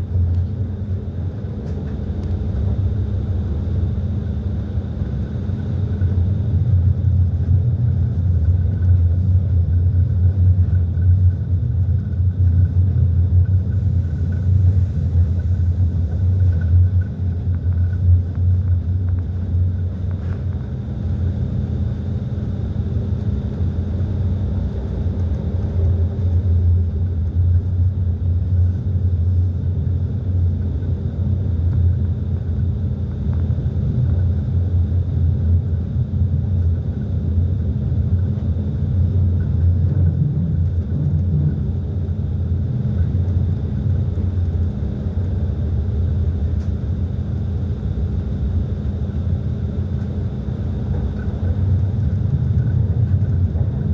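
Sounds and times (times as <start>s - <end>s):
train rumbling on the track: 0.0s - 53.9s.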